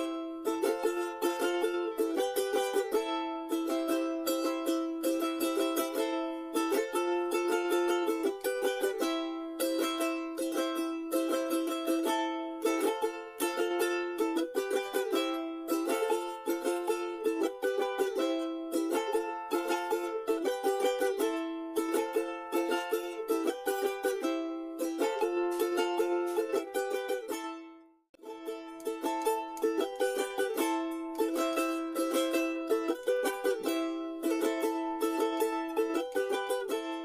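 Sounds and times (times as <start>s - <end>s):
charango strummed chords: 0.0s - 37.0s.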